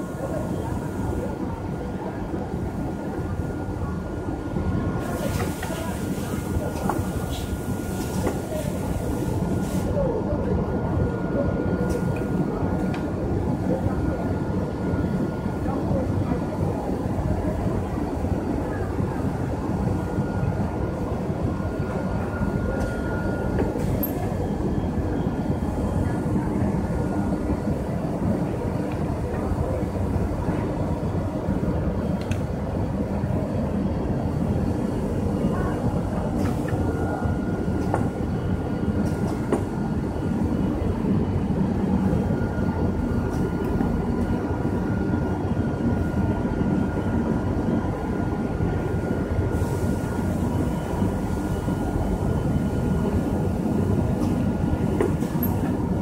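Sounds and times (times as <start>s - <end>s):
thin steady whine: 0.0s - 56.0s.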